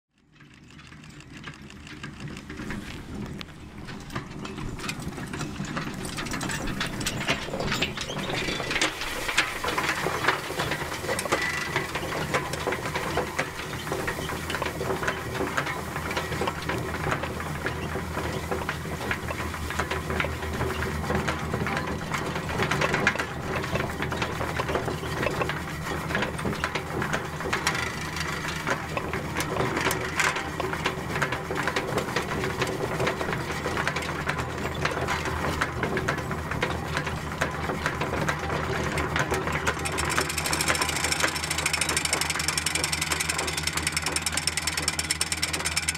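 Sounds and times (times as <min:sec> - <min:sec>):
hay tedder clattering: 0:00.4 - 0:45.9.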